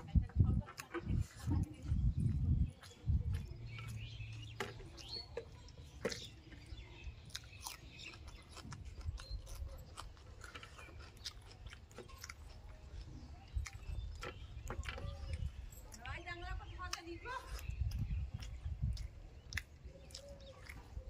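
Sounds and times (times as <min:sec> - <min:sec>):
person chewing and lip-smacking: 0:00.8 - 0:16.2, 0:16.9 - 0:21.0.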